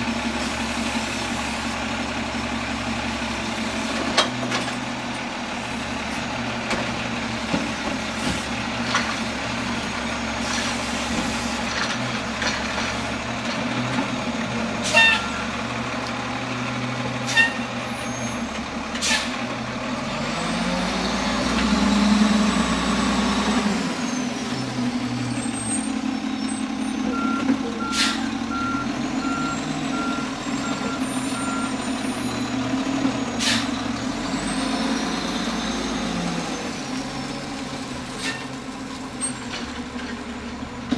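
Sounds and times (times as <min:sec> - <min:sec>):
garbage truck diesel engine: 0:00.0 - 0:40.9.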